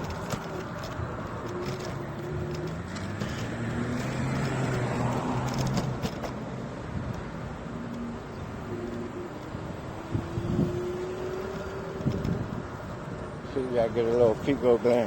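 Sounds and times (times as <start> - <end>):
cars passing on street: 0.0 - 15.0.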